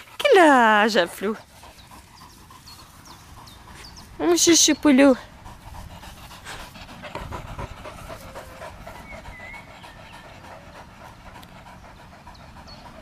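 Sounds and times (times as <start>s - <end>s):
dog panting hard: 0.0s - 13.0s.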